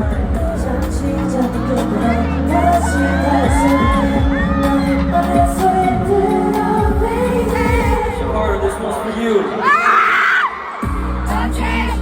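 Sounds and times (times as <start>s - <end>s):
deep bass beat: 0.0s - 8.8s, 10.8s - 12.0s
person singing pop song: 0.0s - 12.0s.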